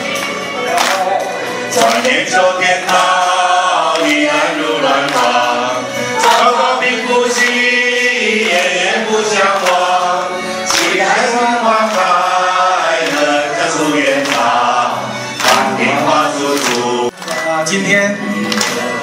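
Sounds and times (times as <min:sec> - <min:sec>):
group singing together: 0:00.0 - 0:19.0
people clapping: 0:00.0 - 0:19.0.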